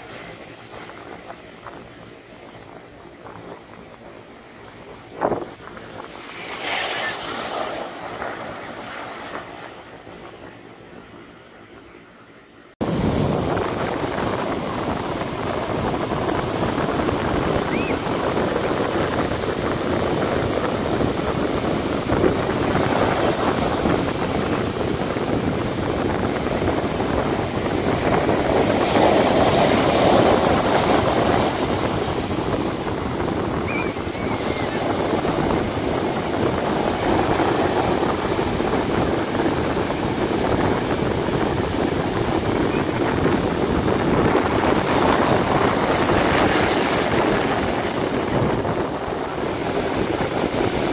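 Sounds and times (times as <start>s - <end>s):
surf washing up beach: 0.0s - 12.0s, 12.8s - 50.9s.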